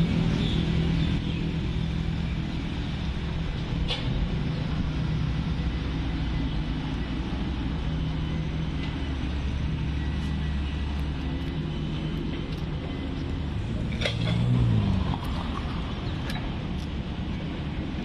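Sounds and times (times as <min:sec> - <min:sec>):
city road traffic rumble: 0:00.0 - 0:18.0.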